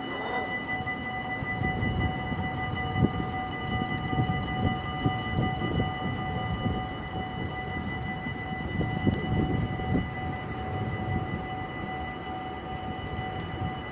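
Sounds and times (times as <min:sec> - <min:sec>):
level-crossing warning bell ringing: 0:00.0 - 0:13.9.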